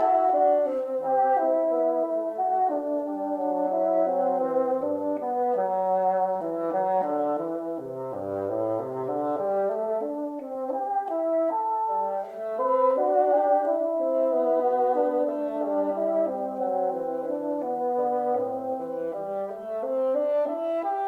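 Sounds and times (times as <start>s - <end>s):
brass ensemble playing: 0.0s - 21.0s.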